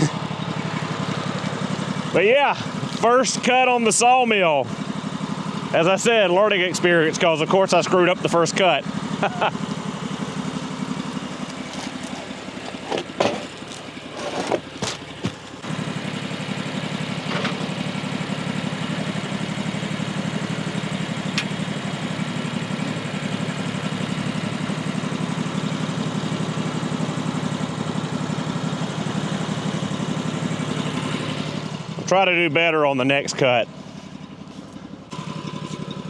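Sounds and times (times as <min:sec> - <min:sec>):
gasoline engine running: 0:00.0 - 0:36.0.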